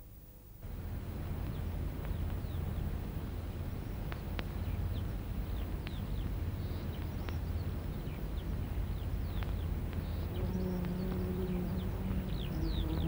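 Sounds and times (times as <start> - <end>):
birds chirping: 0.6 - 13.0
low hum: 0.6 - 13.0.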